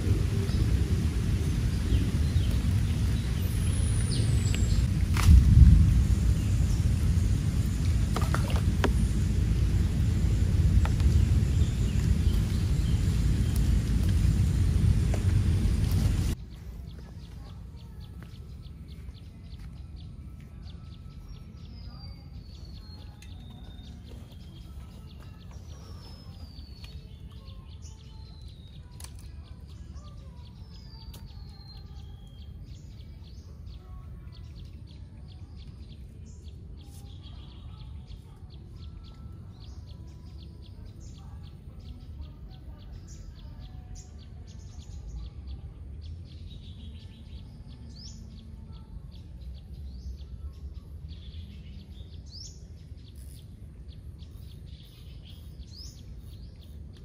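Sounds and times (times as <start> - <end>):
birds whistling and chirping: 0.0 - 5.3, 8.2 - 57.0
steady low rumble: 0.0 - 57.0.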